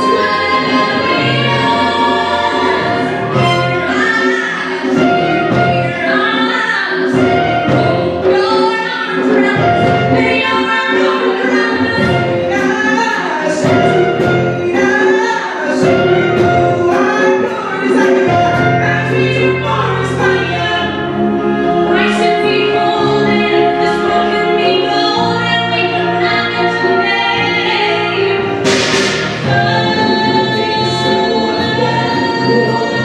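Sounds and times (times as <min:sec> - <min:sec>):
women singing in harmony: 0:00.0 - 0:28.8, 0:29.4 - 0:33.0
live band playing: 0:00.0 - 0:33.0.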